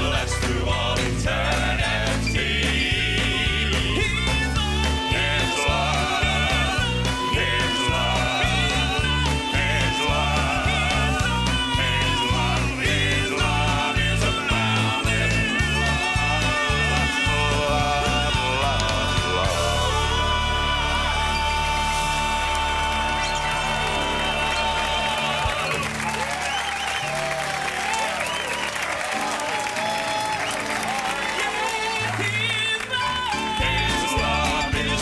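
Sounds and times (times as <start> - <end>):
gospel band playing: 0.0 - 35.0.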